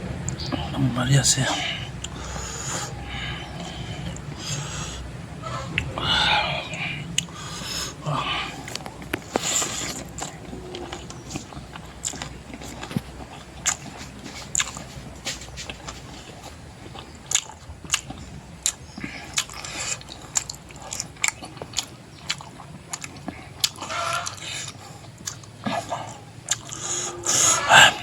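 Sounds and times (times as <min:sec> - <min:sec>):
person chewing with wet smacks: 0:01.3 - 0:28.0.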